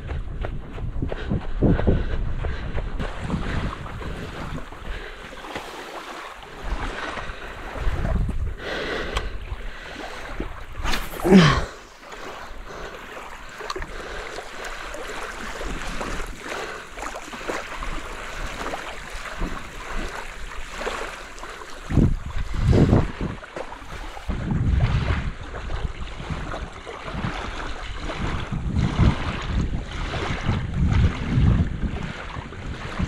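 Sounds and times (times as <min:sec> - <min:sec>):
wind on microphone: 0:00.0 - 0:05.8, 0:06.4 - 0:33.0
waves lapping on sand: 0:03.0 - 0:33.0.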